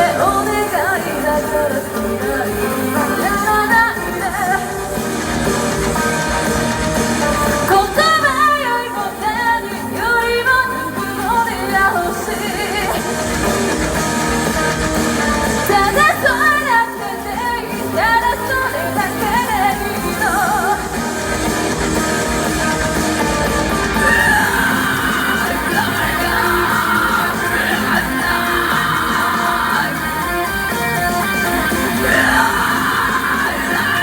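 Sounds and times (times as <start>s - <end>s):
band playing live: 0.0s - 34.0s
lead singer singing: 0.0s - 34.0s.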